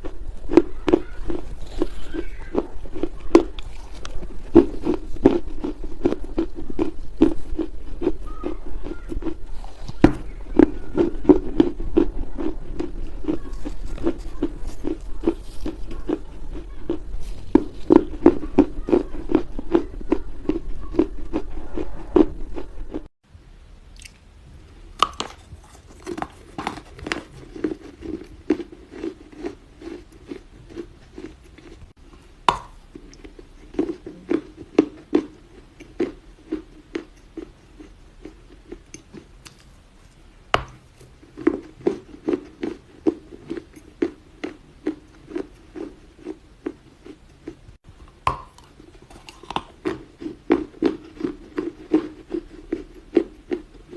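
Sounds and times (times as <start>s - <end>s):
person chewing clay: 0.0s - 23.1s, 25.0s - 53.9s.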